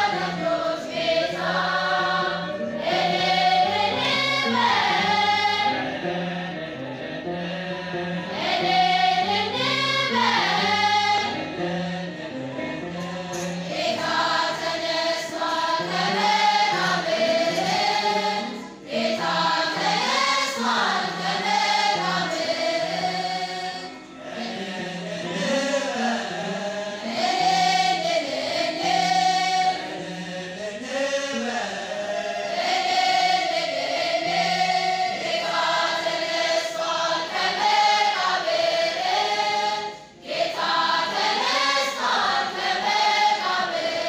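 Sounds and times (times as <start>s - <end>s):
women's choir singing a hymn: 0.0s - 44.0s.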